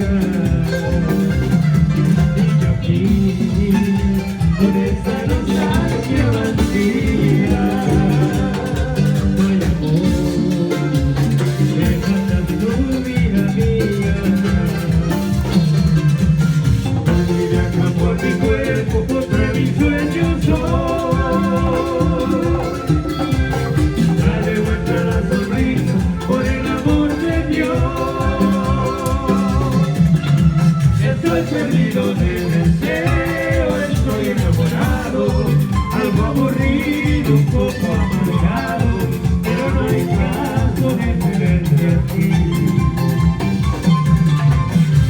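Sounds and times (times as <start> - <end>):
person singing: 0.0 - 16.2, 17.1 - 43.6
band playing latin dance music: 0.0 - 45.0.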